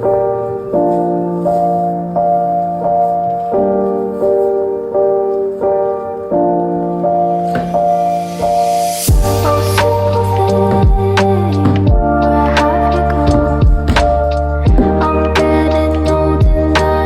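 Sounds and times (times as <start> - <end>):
keyboard playing chords: 0.0 - 17.0.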